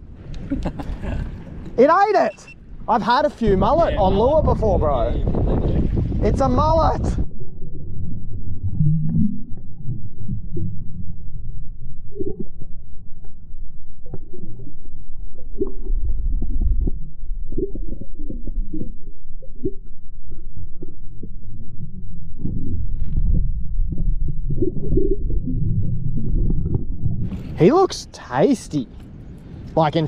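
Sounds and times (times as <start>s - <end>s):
underwater rumble of moving water: 2.5s - 30.0s.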